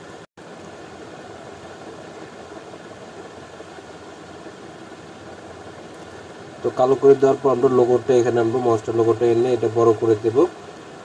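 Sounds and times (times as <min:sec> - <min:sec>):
microphone hiss and hum: 0:00.0 - 0:11.0.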